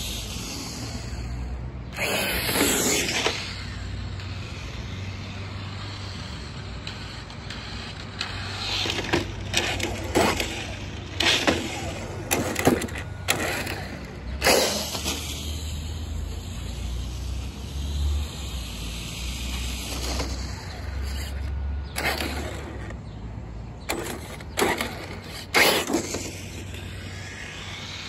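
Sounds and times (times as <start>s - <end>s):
rc truck motor whine: 0.0s - 28.0s.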